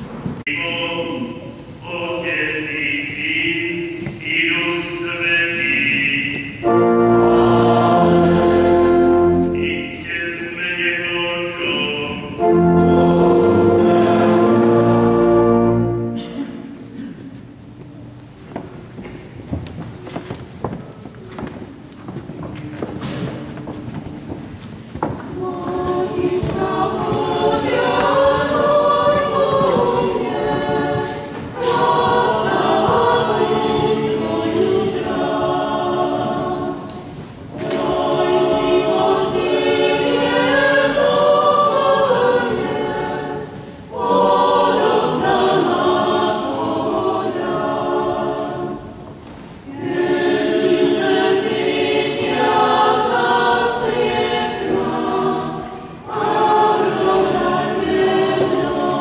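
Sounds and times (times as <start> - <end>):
congregation singing a hymn: 0.0 - 17.4, 22.6 - 59.0.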